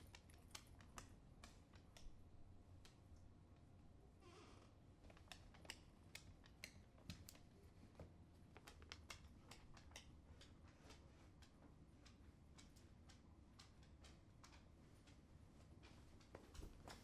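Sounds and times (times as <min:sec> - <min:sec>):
dog nails clicking on wood floor: 0:00.0 - 0:03.7, 0:05.0 - 0:17.0.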